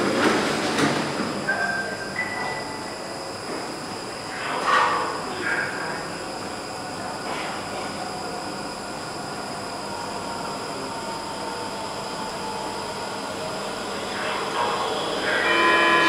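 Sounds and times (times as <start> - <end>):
metro train humming: 0.0 - 16.0.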